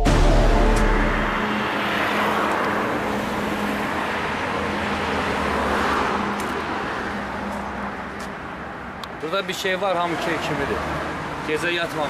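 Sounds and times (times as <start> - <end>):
vehicle passing: 0.1 - 12.0.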